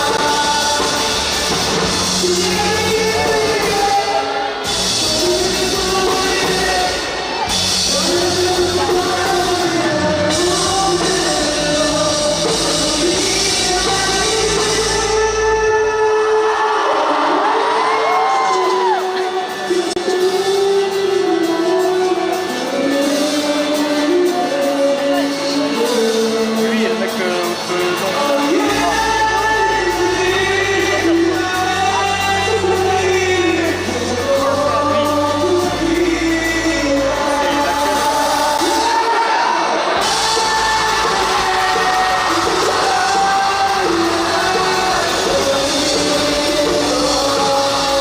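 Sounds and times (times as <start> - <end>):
lead vocal singing: 0.0 - 48.0
rock band playing: 0.0 - 48.0.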